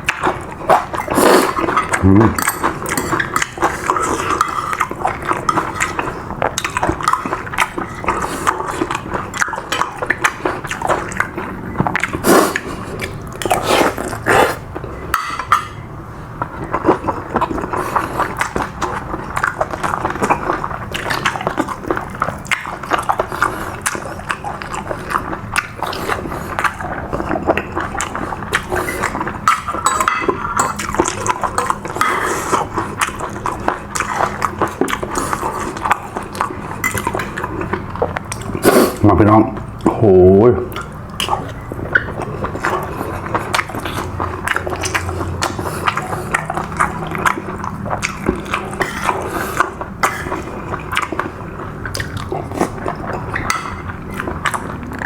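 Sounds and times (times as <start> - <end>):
close-up chewing: 0.0 - 55.0.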